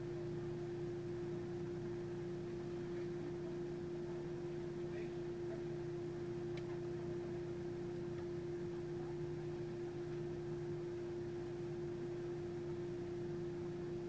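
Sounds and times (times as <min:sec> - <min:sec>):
steady hum with held tone: 0:00.0 - 0:14.0.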